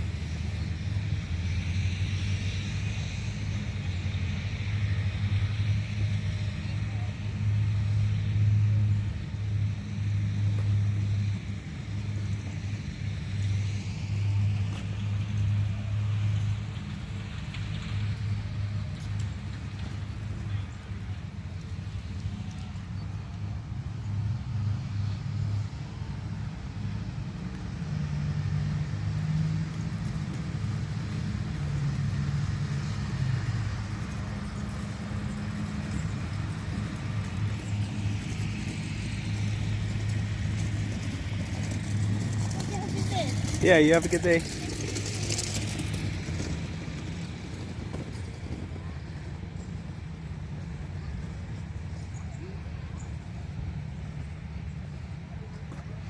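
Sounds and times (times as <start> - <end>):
low mechanical hum: 0.0 - 56.0
vehicle engine rumble: 0.0 - 56.0.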